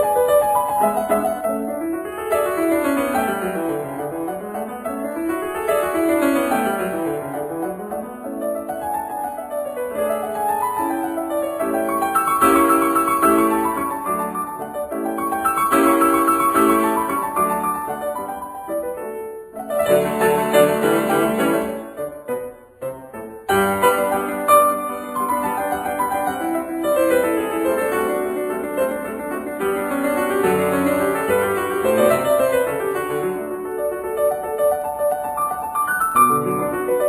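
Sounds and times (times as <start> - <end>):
piano music: 0.0 - 37.0.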